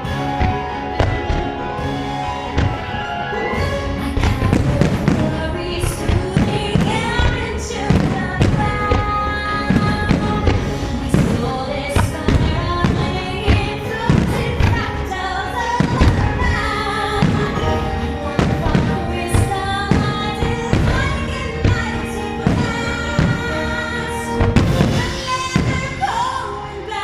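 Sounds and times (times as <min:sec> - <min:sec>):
show music with singing: 0:00.0 - 0:27.0.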